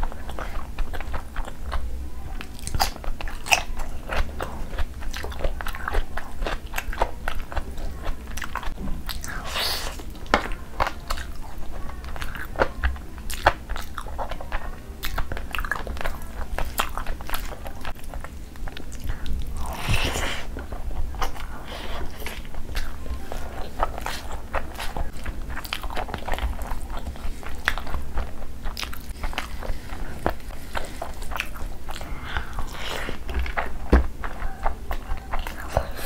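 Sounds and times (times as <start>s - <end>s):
chewing and wet mouth sounds: 0.0s - 36.0s.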